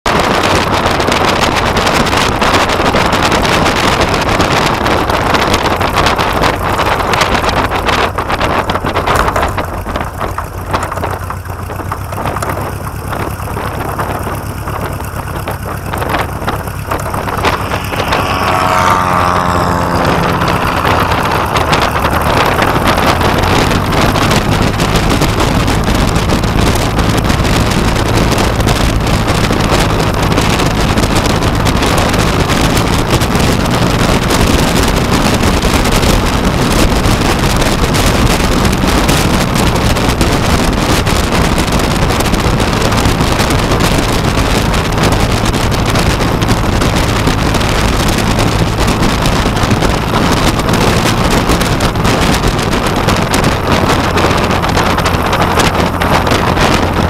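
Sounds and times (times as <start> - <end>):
light aircraft engine and propeller: 0.0 - 57.0
wind buffeting microphone: 0.0 - 57.0.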